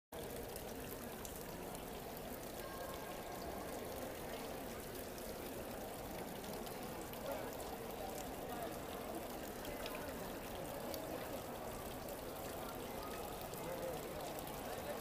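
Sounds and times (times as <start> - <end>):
murmur of distant voices: 0.2 - 15.0.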